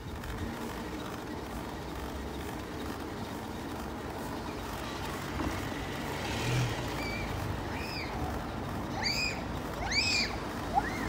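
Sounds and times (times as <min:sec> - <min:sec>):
bicycle tyre and wind rumble: 0:00.0 - 0:11.0.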